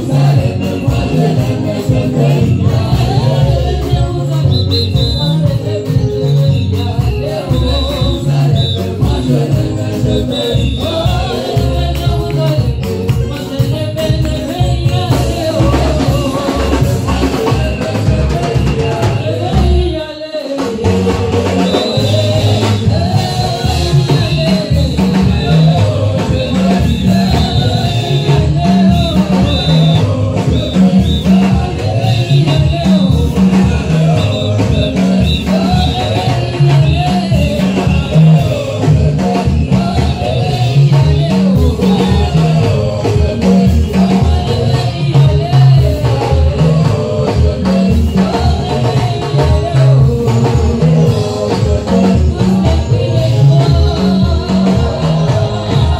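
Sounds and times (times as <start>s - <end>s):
gospel band playing: 0.0s - 55.9s
woman singing into a microphone: 0.0s - 55.9s.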